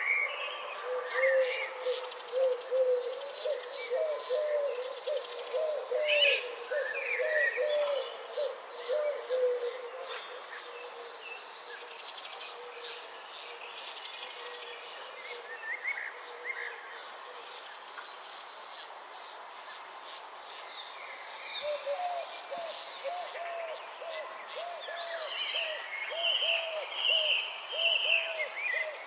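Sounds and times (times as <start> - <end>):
forest ambience: 0.0 - 29.0
insects trilling: 0.0 - 29.0.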